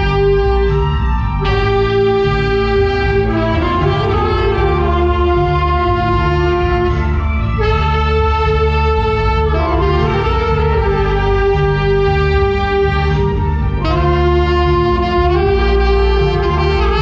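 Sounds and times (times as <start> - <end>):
saxophone ensemble playing held chords: 0.0 - 17.0.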